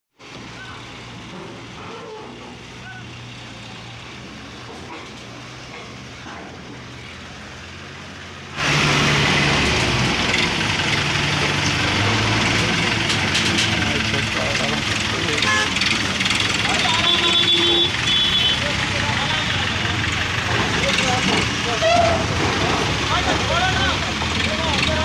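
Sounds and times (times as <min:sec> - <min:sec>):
heavy diesel engine running: 0:00.2 - 0:25.0.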